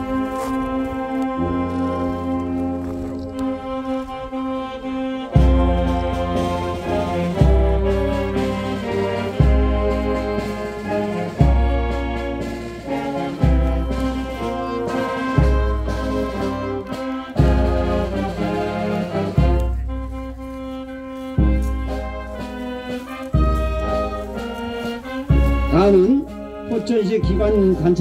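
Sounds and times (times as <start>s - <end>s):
slow brass instrumental music: 0.0s - 28.0s.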